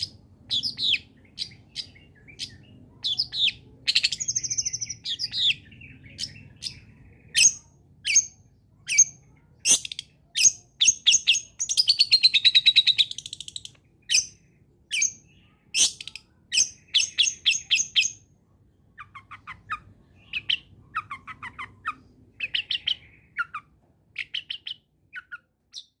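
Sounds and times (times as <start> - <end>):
bird singing and chattering: 0.0 - 26.0.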